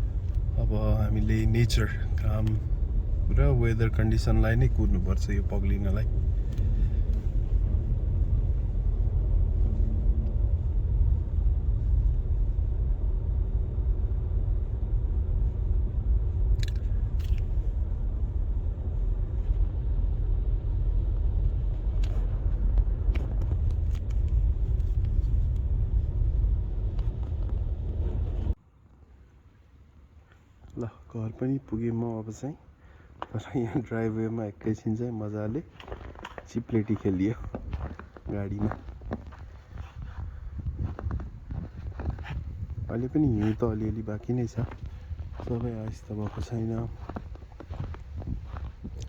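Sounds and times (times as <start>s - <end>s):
car driving on snowy street: 0.0s - 28.6s, 33.3s - 49.0s.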